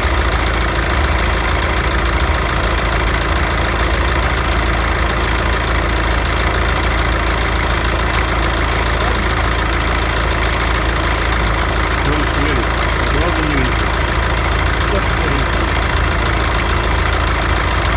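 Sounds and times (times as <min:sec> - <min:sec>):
alternator belt drive noise: 0:00.0 - 0:17.9
car engine idling: 0:00.0 - 0:17.9.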